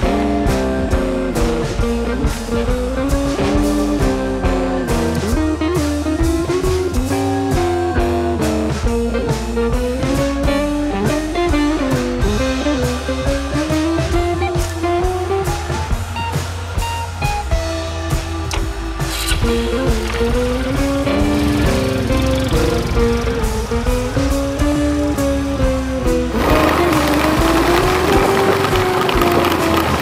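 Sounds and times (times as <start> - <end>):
blues music with guitar: 0.0 - 30.0.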